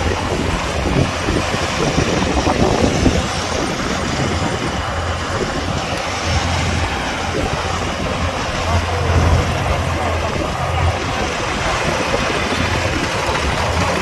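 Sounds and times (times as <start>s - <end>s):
combine harvester engine hum: 0.0s - 14.0s
cutting and threshing machinery: 0.0s - 14.0s.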